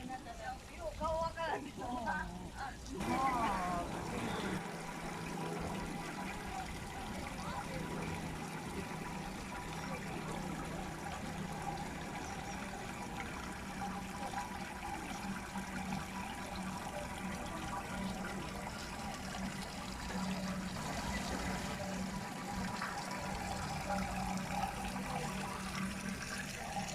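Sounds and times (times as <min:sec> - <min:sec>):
low steady hum: 0:00.0 - 0:26.9
running water splashing: 0:00.0 - 0:26.9.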